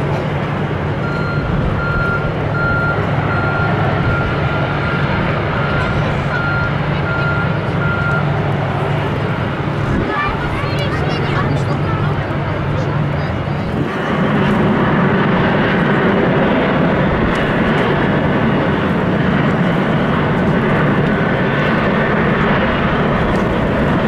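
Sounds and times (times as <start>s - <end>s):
airliner engines running: 0.0s - 24.0s.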